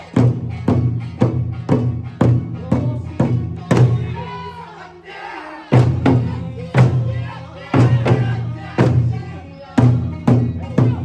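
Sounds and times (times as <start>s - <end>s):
heavy drum beats in unison: 0.0s - 4.6s, 5.7s - 11.0s.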